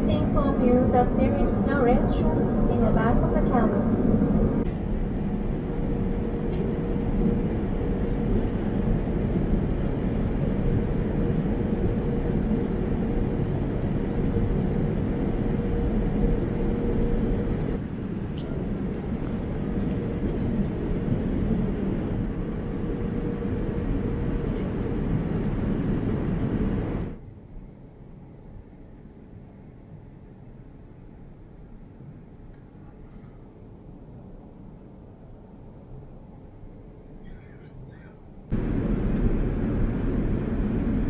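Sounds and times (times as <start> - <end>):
airliner cabin drone: 0.0 - 41.0
faint steady hum: 0.0 - 41.0.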